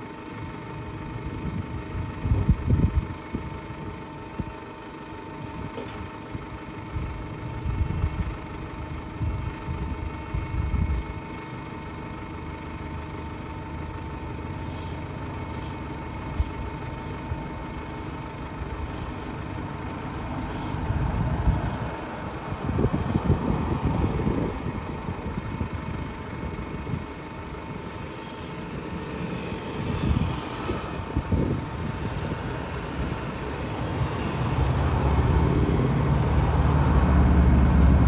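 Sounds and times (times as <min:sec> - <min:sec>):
bus engine idling: 0:00.0 - 0:38.0
passing traffic rumble: 0:00.0 - 0:38.0.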